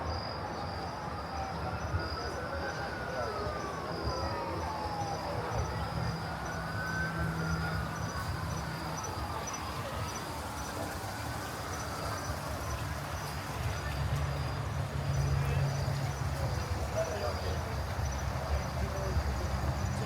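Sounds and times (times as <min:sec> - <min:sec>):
crickets chirping: 0:00.0 - 0:20.0
distant siren: 0:00.0 - 0:20.0
low city rumble: 0:00.0 - 0:20.0.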